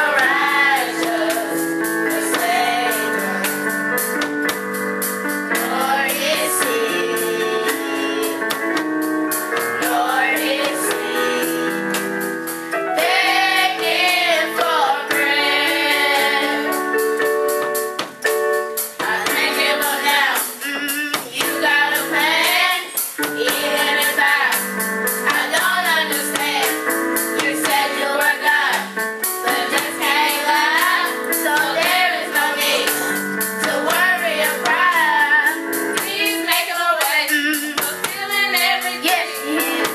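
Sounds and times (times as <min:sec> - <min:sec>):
children and woman singing gospel: 0:00.0 - 0:03.8, 0:05.5 - 0:08.9, 0:09.5 - 0:16.9, 0:19.0 - 0:39.9
held keyboard chords: 0:00.0 - 0:39.9
tambourine beat: 0:00.0 - 0:39.9.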